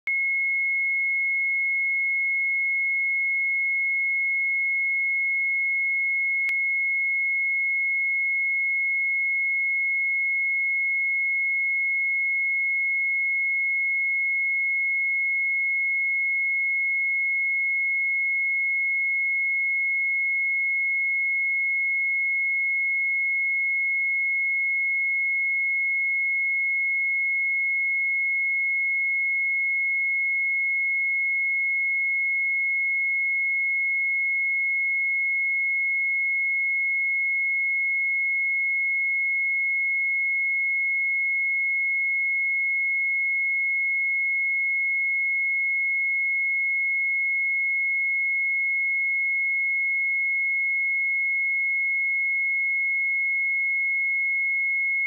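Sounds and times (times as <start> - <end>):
sine-wave test tone: 0.1 - 55.0.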